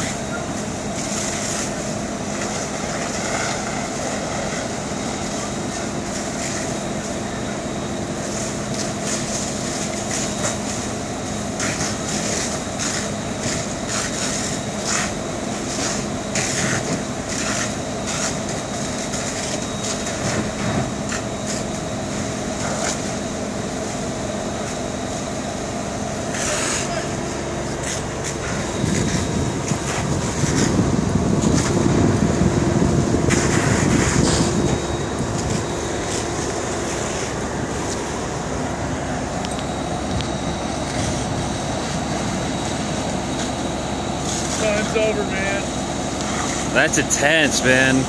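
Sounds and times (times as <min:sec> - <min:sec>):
fire crackling and popping: 0:00.0 - 0:07.4, 0:08.0 - 0:48.0
diesel engine droning: 0:00.0 - 0:48.0.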